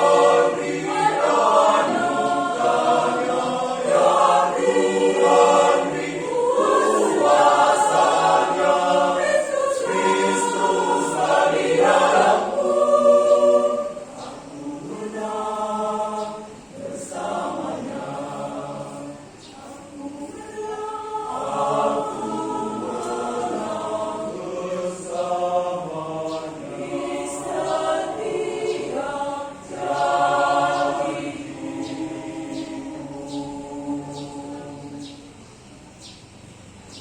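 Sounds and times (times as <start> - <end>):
choir singing a hymn: 0.0 - 36.1.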